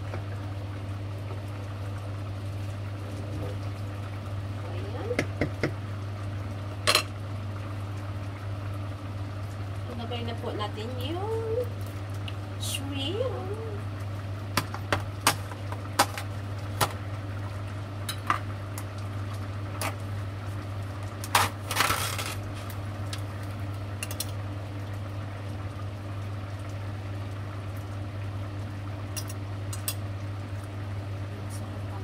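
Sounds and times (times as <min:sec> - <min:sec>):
stew simmering in a pot: 0:00.0 - 0:32.0.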